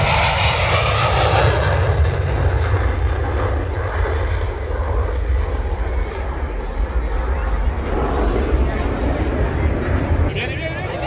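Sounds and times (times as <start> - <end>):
aircraft passing overhead: 0.0 - 11.0.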